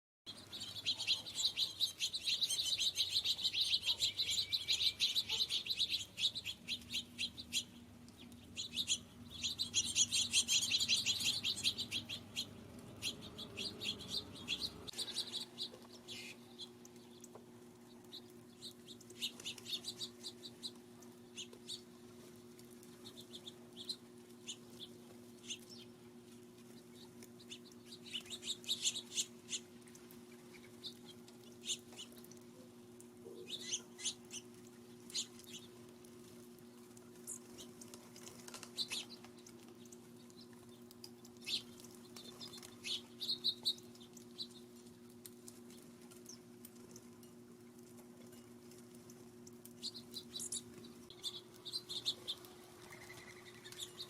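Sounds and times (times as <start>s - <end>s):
faint low hum: 0.3s - 54.0s
small birds chirping: 0.3s - 54.0s.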